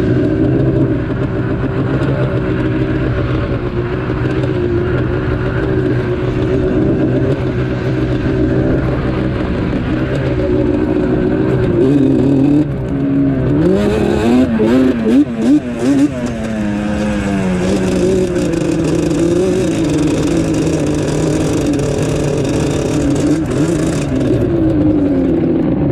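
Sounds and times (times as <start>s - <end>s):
quad bike engine revving: 0.0s - 25.9s.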